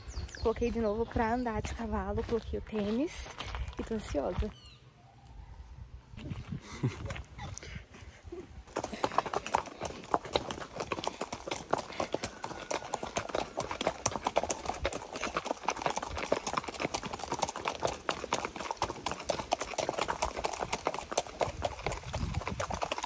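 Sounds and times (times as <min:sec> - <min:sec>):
horse hooves clip-clopping on dirt: 0:00.0 - 0:04.8, 0:06.1 - 0:23.0.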